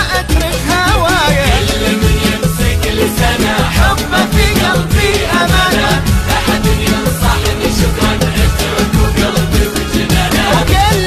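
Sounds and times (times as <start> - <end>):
music with bass and percussion: 0.0 - 11.0.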